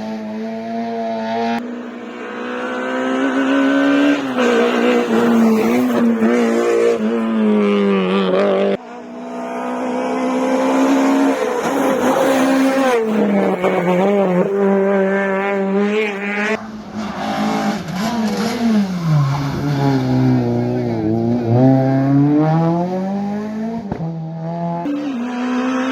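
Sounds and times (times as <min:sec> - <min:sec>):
rally car engines revving: 0:00.0 - 0:25.9.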